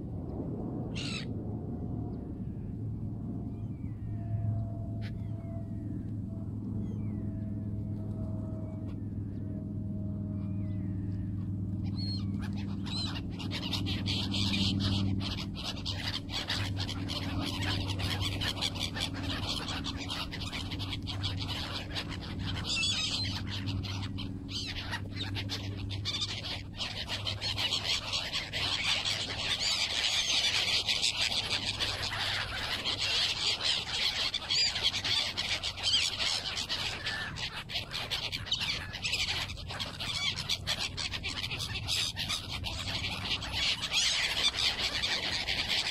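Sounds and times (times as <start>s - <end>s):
low steady hum: 0.0s - 45.9s
gulls calling: 0.9s - 1.3s, 2.0s - 45.9s.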